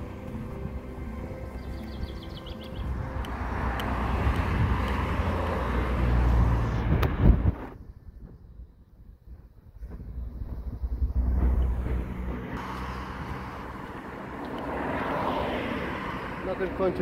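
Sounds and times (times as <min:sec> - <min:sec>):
vehicle passing rumble: 0:00.0 - 0:17.0.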